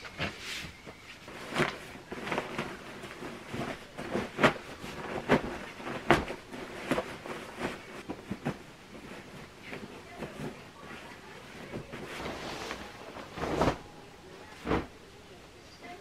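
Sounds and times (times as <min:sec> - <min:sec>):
bedding fabric rustling: 0:00.0 - 0:16.0.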